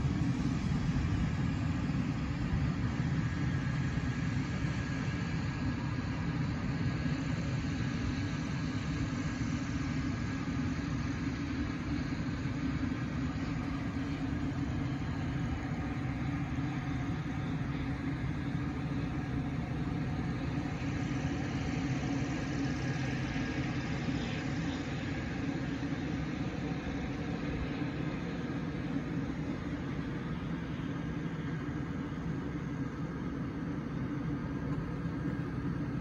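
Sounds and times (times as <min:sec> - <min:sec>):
engine humming at idle: 0:00.0 - 0:36.0.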